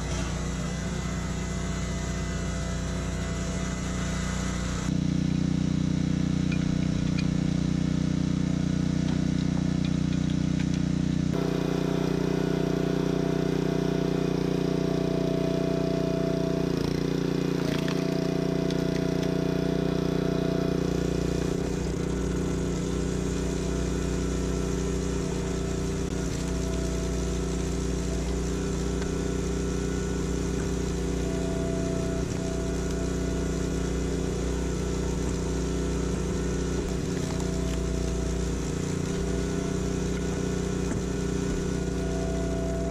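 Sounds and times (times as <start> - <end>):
log splitter higher tone: 0.0 - 42.9
small gasoline engine running: 0.0 - 42.9.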